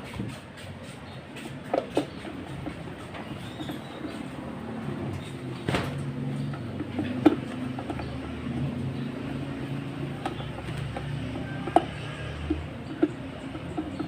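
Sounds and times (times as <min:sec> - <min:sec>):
low mechanical hum: 0:00.0 - 0:14.0
sharp clicks and knocks: 0:00.0 - 0:14.0.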